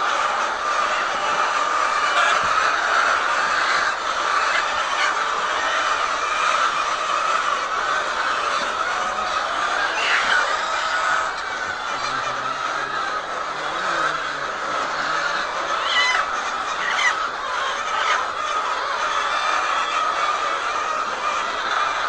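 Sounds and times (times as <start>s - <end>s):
flock of hens clucking: 0.0s - 22.0s.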